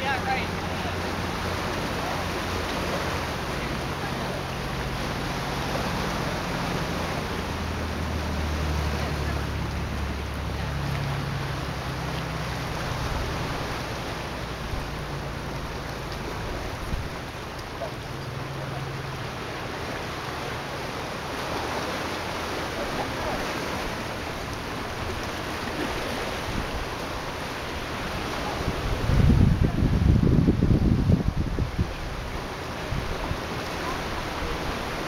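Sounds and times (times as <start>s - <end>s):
sea water washing against rocks: 0.0s - 35.0s.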